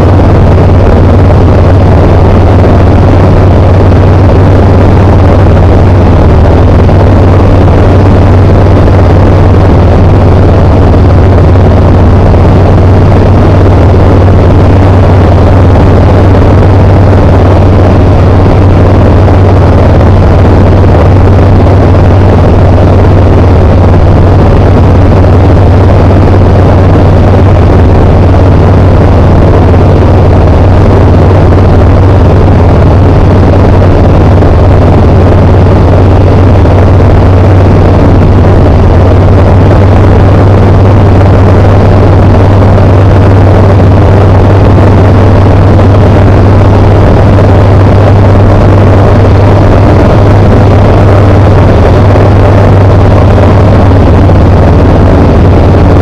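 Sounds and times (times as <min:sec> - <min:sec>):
aircraft engine and propeller drone: 0:00.0 - 0:55.8.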